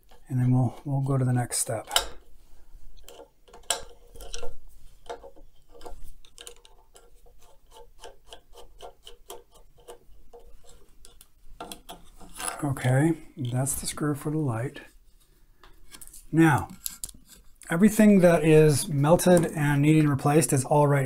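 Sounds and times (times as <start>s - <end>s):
knocks and scrapes: 3.0s - 20.5s.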